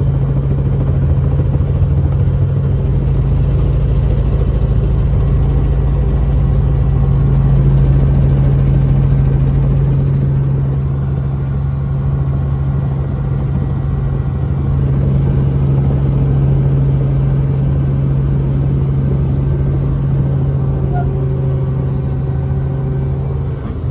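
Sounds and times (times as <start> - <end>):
helicopter engine and rotors: 0.0 - 23.9.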